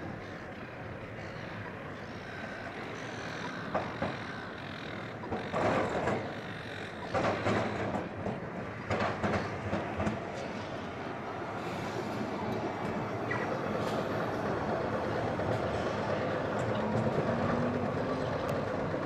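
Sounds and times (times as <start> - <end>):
tram wheels clattering over rails: 0.0 - 19.0.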